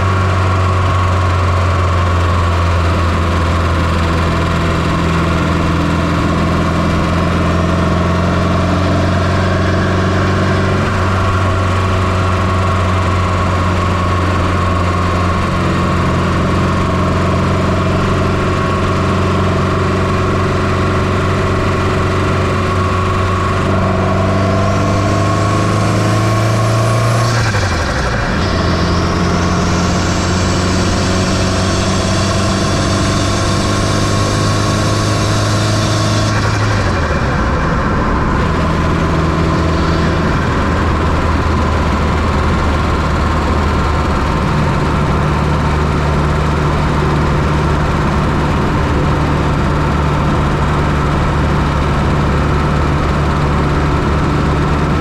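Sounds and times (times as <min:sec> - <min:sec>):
car engine running: 0:00.0 - 0:55.0
high turbo whine: 0:00.0 - 0:55.0.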